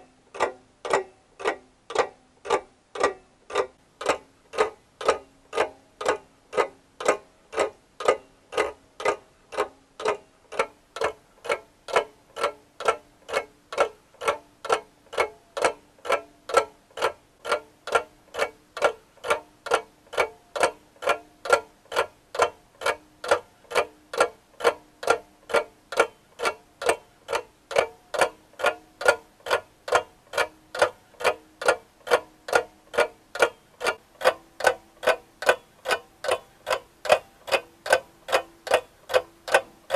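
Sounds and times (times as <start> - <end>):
steady ticking: 0.0 - 39.9.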